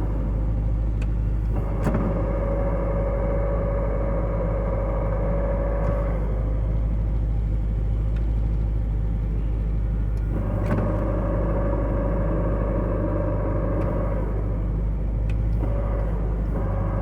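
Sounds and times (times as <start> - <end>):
car engine idling: 0.0 - 17.0
gearbox whining: 0.0 - 17.0.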